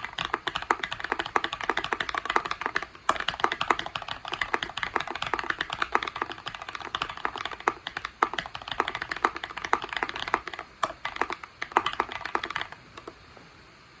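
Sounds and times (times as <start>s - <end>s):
mechanical keyboard typing: 0.0s - 13.4s.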